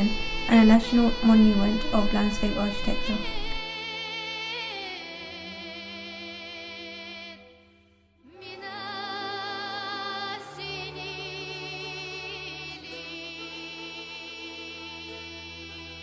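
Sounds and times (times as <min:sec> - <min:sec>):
slow melody with vibrato: 0:00.0 - 0:16.0.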